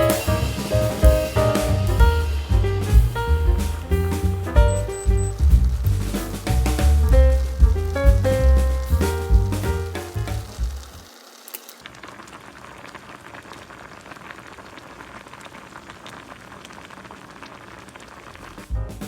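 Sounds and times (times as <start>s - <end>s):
stew bubbling and popping: 1.9s - 11.0s, 11.8s - 18.8s.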